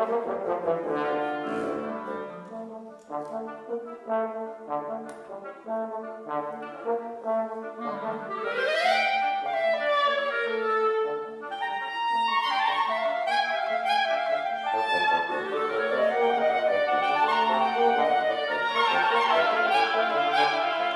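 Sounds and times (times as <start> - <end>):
woodwind quintet playing: 0.0 - 20.9.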